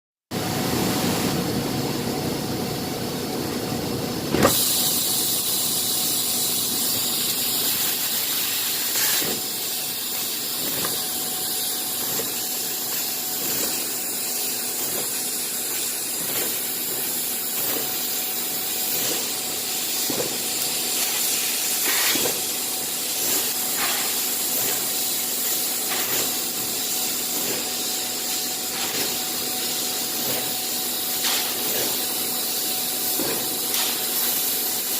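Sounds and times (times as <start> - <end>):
machine hiss with whine: 0.4 - 34.9.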